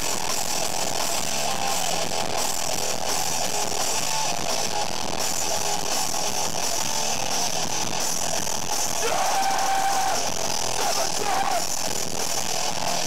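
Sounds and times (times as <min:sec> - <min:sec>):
punk band playing distorted guitars: 0:00.0 - 0:13.0.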